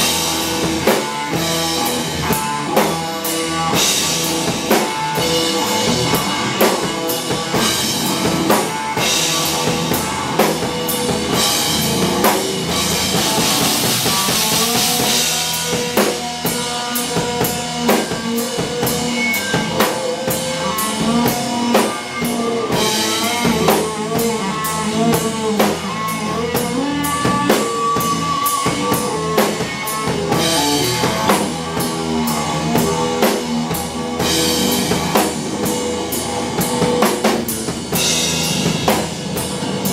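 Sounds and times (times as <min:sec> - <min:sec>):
distorted electric guitar: 0:00.0 - 0:39.9
drum kit hits: 0:00.0 - 0:39.9
live rock band playing: 0:00.0 - 0:39.9.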